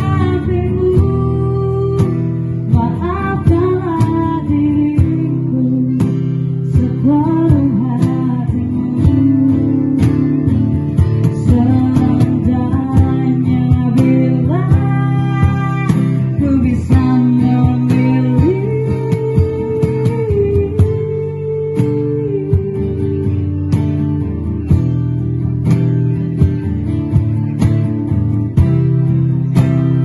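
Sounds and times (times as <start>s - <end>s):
woman singing: 0.0s - 25.2s
strummed acoustic guitar: 0.0s - 30.0s.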